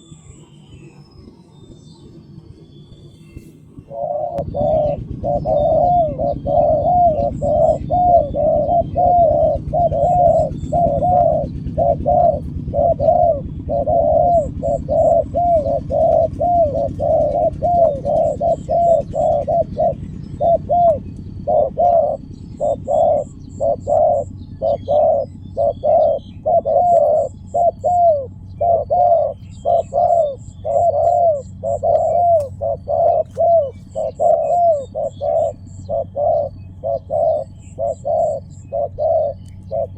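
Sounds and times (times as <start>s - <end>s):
dove cooing: 3.3s - 39.9s.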